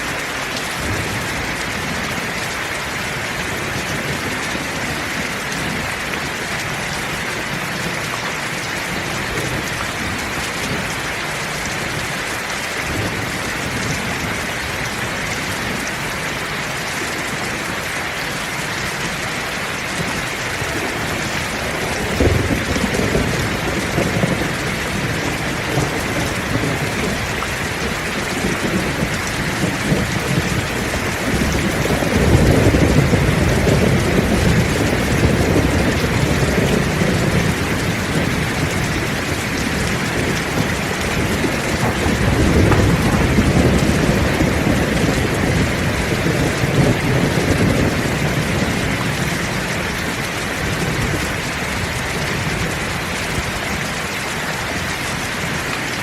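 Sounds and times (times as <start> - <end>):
thunder rumbling: 0.0 - 15.9, 19.8 - 53.8
heavy rain falling: 0.0 - 56.0.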